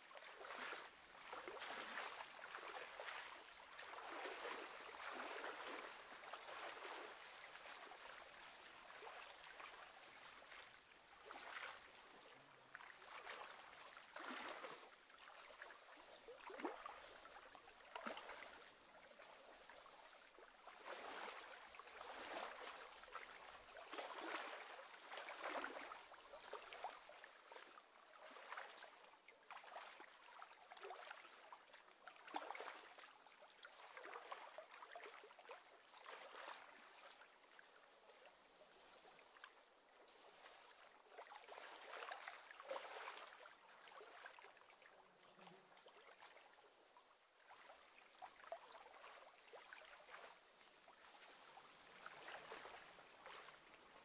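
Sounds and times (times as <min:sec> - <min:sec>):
small waves lapping: 0:00.1 - 0:54.0.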